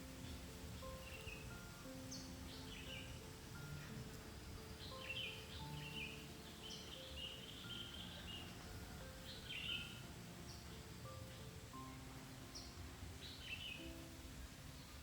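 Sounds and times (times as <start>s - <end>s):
forest ambience hiss: 0.0s - 15.0s
small birds chirping: 0.0s - 15.0s.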